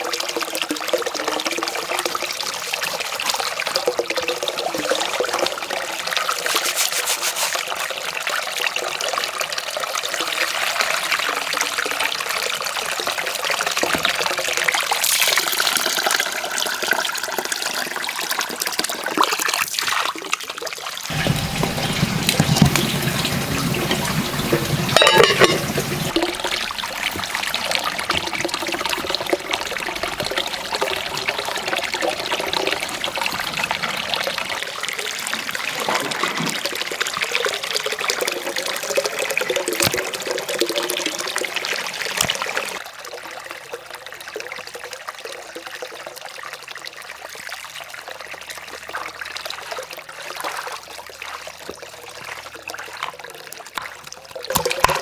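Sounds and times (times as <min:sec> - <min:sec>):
water trickling and gurgling: 0:00.0 - 0:55.0.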